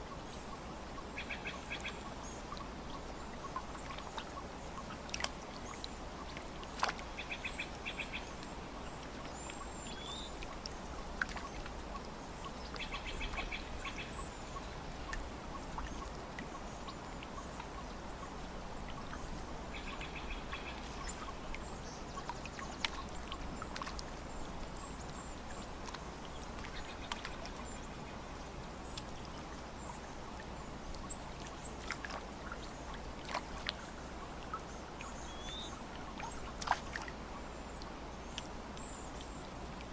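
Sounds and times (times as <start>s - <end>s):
water lapping against shore: 0.0s - 39.9s.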